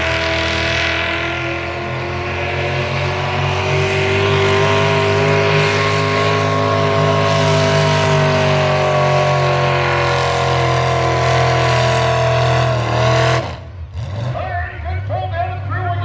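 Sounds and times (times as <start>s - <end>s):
truck engine running hard: 0.0s - 16.0s.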